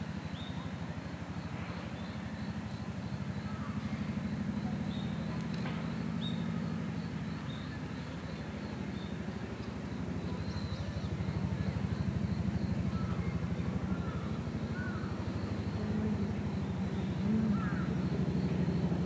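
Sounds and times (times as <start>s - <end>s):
pulsing engine drone: 0.0s - 19.0s.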